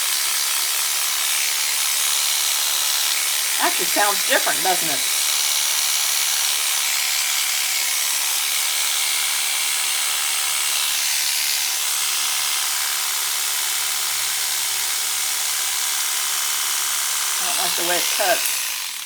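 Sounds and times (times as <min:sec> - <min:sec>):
electric clipper buzzing: 0:00.0 - 0:19.0.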